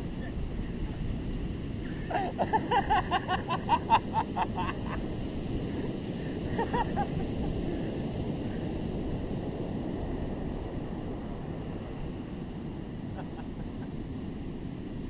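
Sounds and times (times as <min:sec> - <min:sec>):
ocean surf: 0:00.0 - 0:15.0
wind on microphone: 0:00.0 - 0:15.0.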